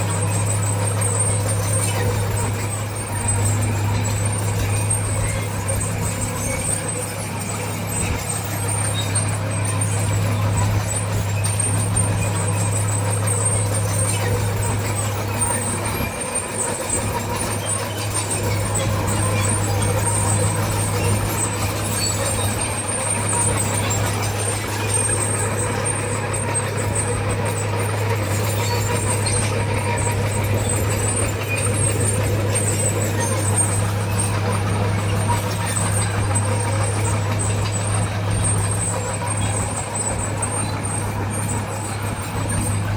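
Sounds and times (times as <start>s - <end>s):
diesel machinery low drone: 0.0s - 42.9s.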